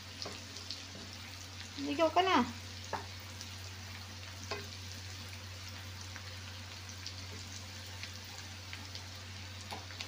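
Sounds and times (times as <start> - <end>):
garlic and onion sizzling in butter: 0.0 - 10.0.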